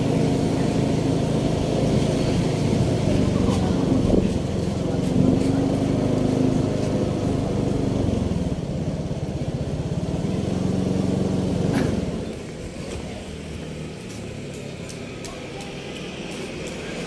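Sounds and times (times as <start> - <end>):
motorbike engine running: 0.0 - 17.0
road and wind noise: 0.0 - 17.0.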